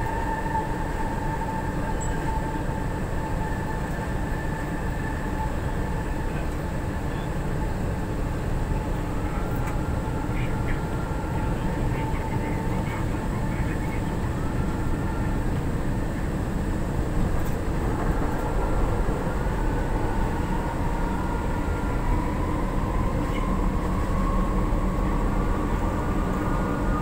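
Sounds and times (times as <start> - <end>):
train rumble and rattle: 0.0 - 27.0.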